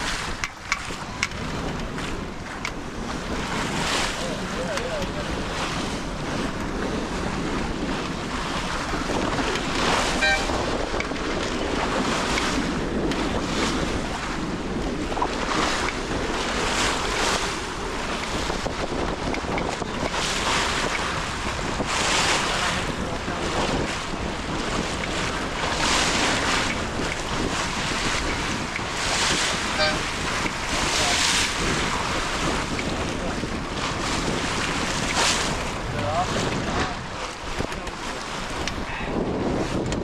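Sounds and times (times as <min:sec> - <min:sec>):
water rushing along hull: 0:00.0 - 0:40.0
wind buffeting microphone: 0:00.0 - 0:40.0.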